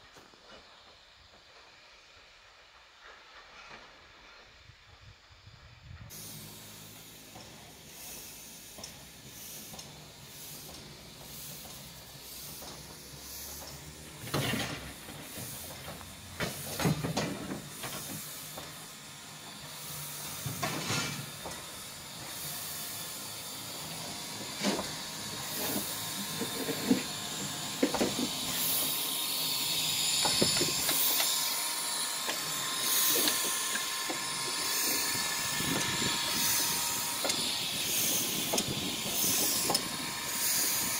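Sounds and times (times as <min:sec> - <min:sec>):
steam hissing: 0:00.0 - 0:40.9.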